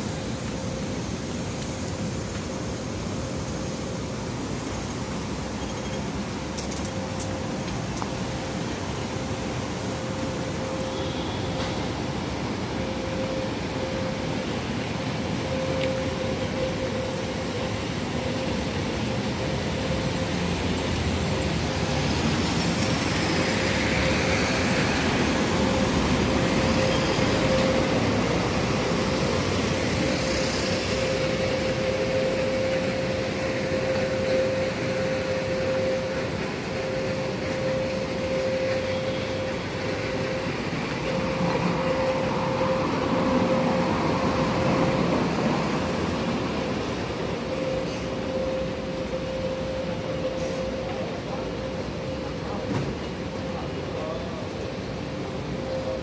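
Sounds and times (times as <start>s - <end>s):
constant hum: 0.0s - 56.0s
vehicle engine noise: 0.0s - 56.0s.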